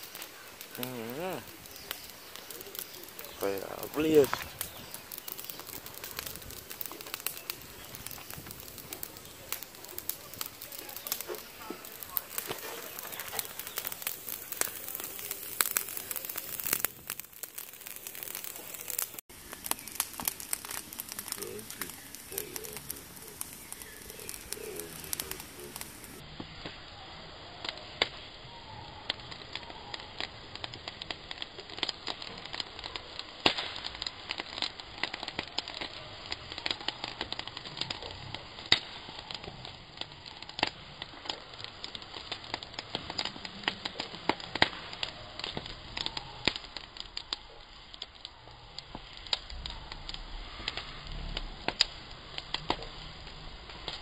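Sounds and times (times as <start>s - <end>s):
fire popping and snapping: 0.0s - 54.0s
wood fire crackling: 0.0s - 54.0s.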